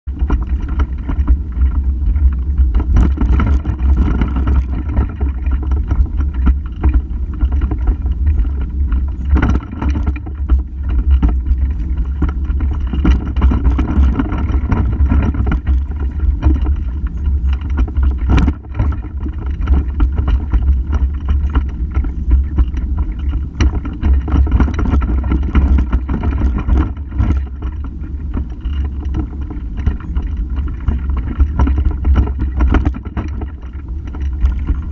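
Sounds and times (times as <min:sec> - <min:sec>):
pram chassis knocking and clicking: 0:00.1 - 0:34.9
pram wheels rumbling over cobblestones: 0:00.1 - 0:34.9.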